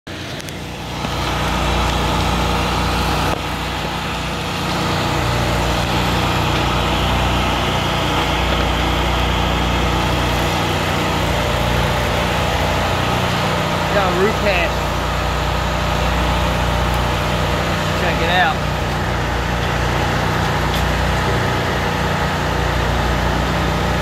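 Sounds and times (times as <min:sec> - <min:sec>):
engine-driven welder running: 0:00.1 - 0:24.0.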